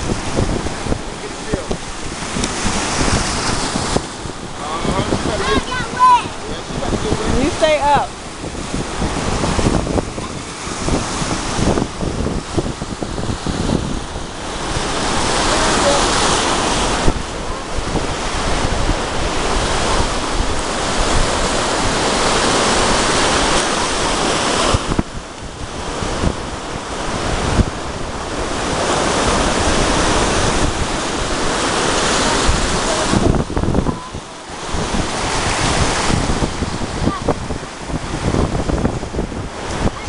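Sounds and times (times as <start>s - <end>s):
surf breaking on beach: 0.0s - 40.0s
wind buffeting microphone: 0.0s - 40.0s.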